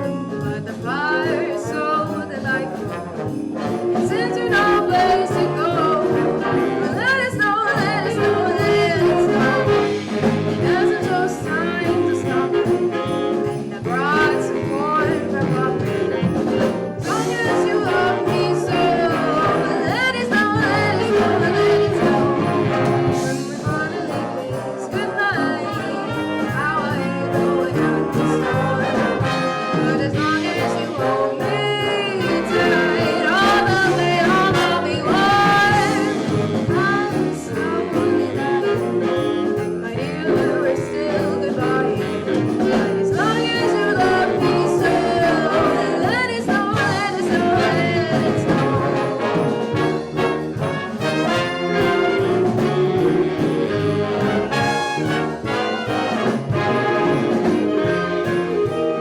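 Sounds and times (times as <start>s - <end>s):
brass section playing: 0.0s - 59.0s.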